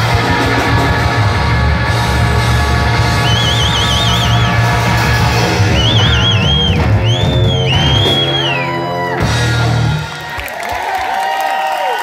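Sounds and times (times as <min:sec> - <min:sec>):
electric guitar lead with vibrato: 0:00.0 - 0:10.3
rock band playing: 0:00.0 - 0:11.0.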